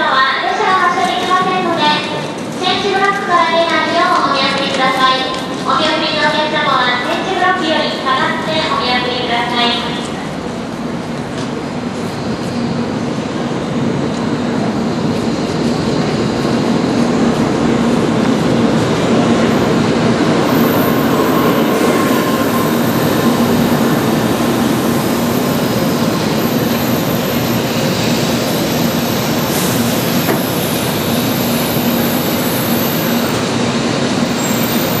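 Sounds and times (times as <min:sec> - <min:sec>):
train wheels rumbling: 0:01.0 - 0:35.0.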